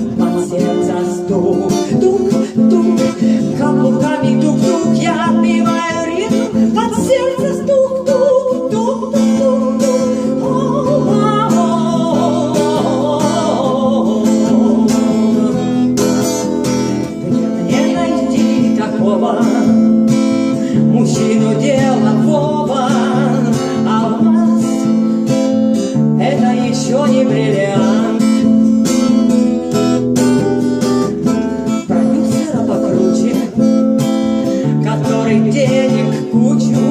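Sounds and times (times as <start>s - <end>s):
instrumental music with strummed guitar: 0.0s - 36.9s.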